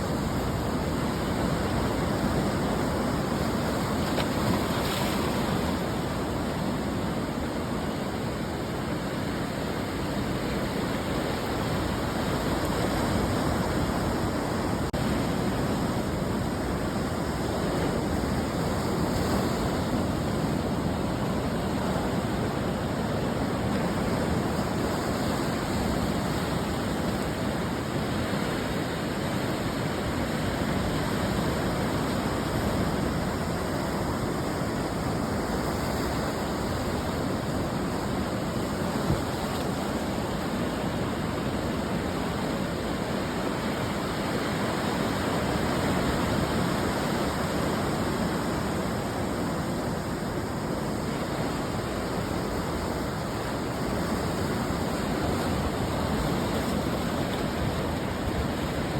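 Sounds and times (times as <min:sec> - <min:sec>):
ocean waves breaking on beach: 0:00.0 - 0:58.9.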